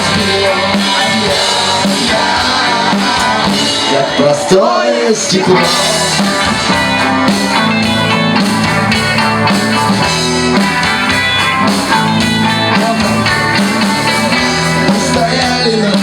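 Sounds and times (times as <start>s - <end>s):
bass guitar: 0.0s - 16.0s
drum kit: 0.0s - 16.0s
electric guitar: 0.0s - 16.0s.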